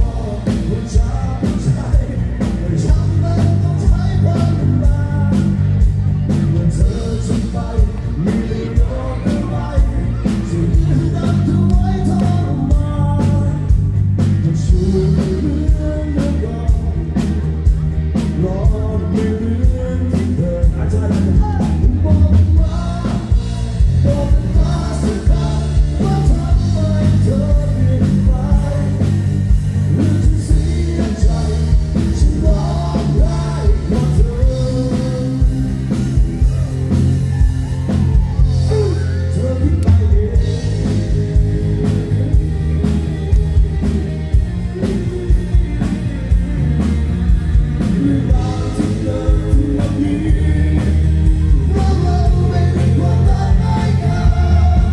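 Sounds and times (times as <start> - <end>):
man singing: 0.0 - 42.7, 47.8 - 54.9
live rock music: 0.0 - 54.9.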